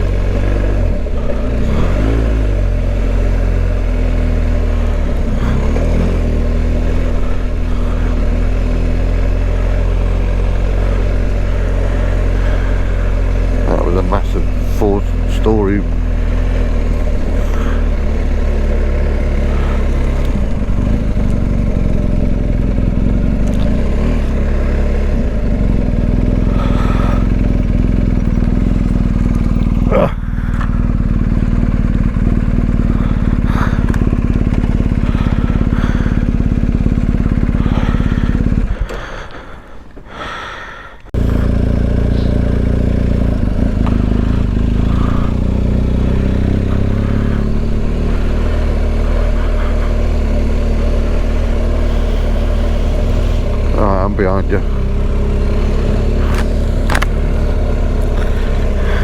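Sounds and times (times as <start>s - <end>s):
motorcycle engine running: 0.0s - 59.0s
wind and riding noise: 0.0s - 59.0s.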